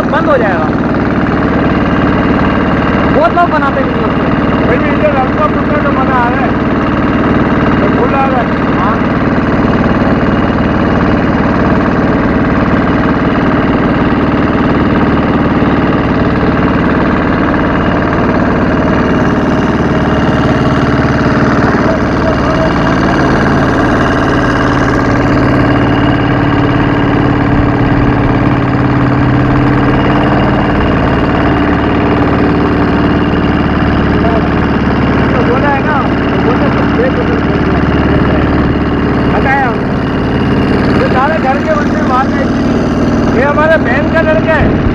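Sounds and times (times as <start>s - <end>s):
motorboat engine running: 0.0s - 44.9s
water rushing along hull: 0.7s - 44.9s.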